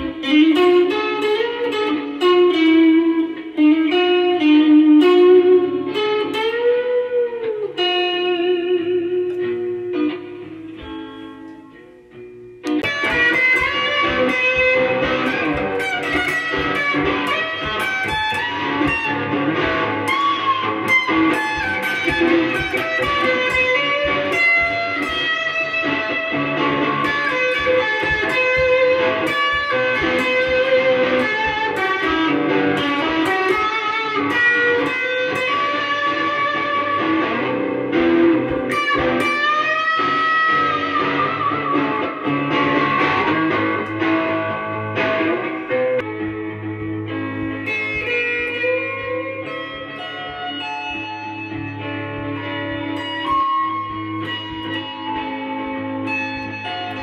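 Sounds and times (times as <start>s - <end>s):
electric guitar lead lines: 0.0s - 57.0s.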